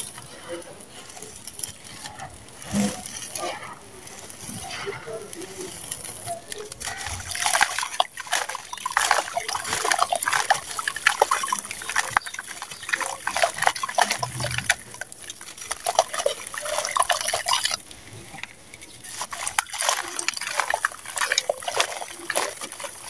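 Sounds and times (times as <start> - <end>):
crumbling cement crunching: 0.0 - 23.0
grit falling into water: 0.9 - 23.0.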